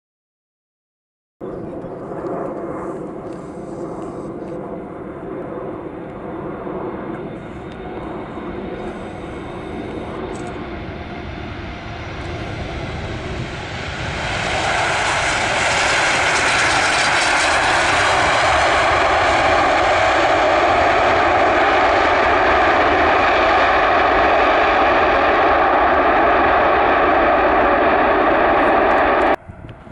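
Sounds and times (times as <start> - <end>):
jet engines droning: 1.4 - 29.9.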